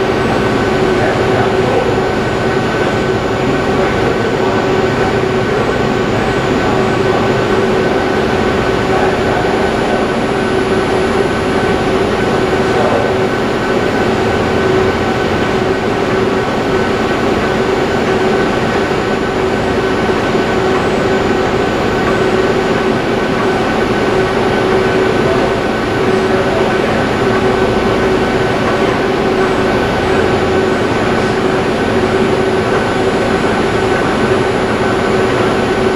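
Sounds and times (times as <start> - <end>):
machine humming tones: 0.0 - 35.9.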